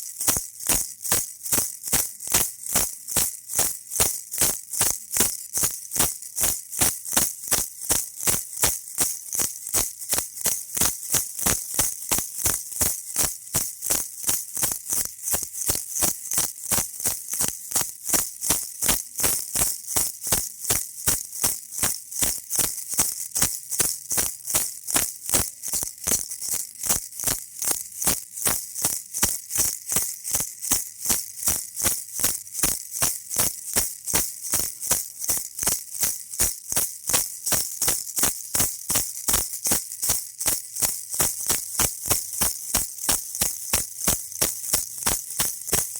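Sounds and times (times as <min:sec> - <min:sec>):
baby rattle shaking: 0:00.0 - 0:45.9.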